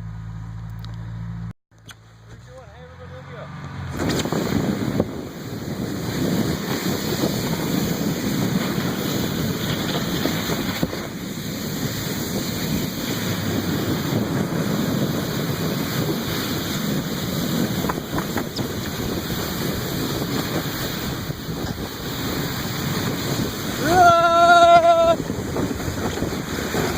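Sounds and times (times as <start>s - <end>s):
wind buffeting microphone: 3.8s - 26.9s
sled rushing across snow: 3.9s - 26.9s.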